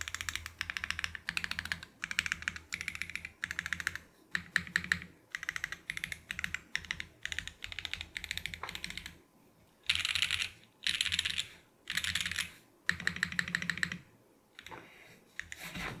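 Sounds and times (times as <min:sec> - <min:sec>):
mechanical keyboard typing: 0:00.0 - 0:09.2, 0:09.9 - 0:14.0.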